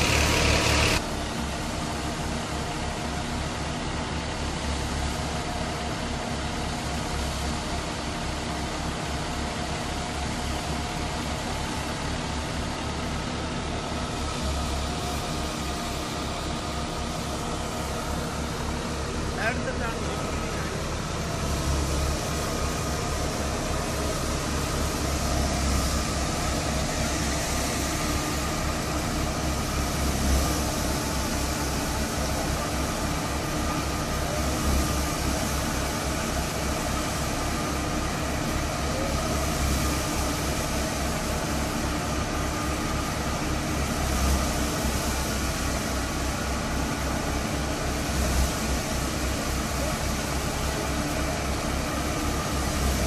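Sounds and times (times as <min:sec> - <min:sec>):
diesel tractor engine under load: 0:00.0 - 0:53.0
thresher running: 0:00.0 - 0:53.0.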